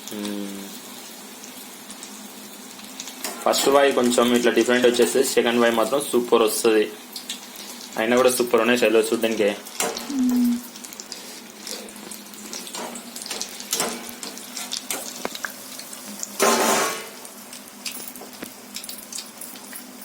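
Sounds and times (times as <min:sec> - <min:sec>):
food deep-frying in hot oil: 0:00.0 - 0:20.0.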